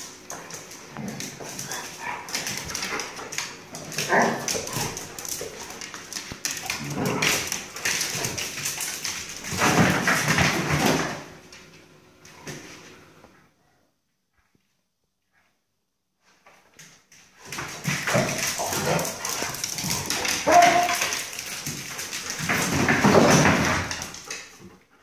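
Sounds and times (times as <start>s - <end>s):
dogs scuffling: 0.0s - 13.1s, 16.3s - 25.0s.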